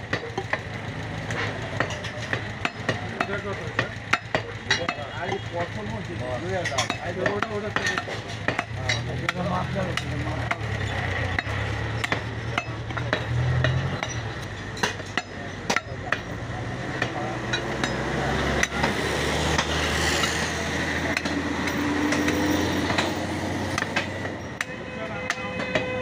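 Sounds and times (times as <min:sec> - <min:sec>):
meat cleavers striking chopping blocks: 0:00.0 - 0:26.0.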